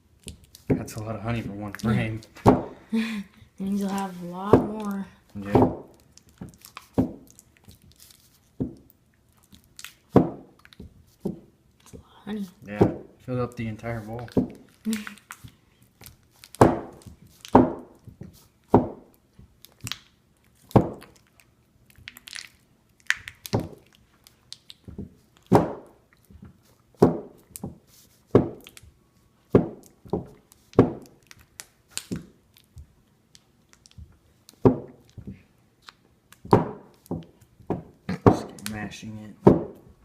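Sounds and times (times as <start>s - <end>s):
honeycomb being mashed: 0.0s - 2.7s, 3.6s - 40.0s.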